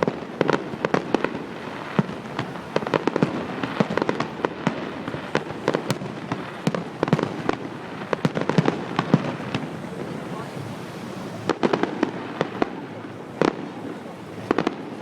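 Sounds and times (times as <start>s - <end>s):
fireworks bangs and crackles: 0.0s - 15.0s
rumble of fireworks bursts: 0.0s - 15.0s.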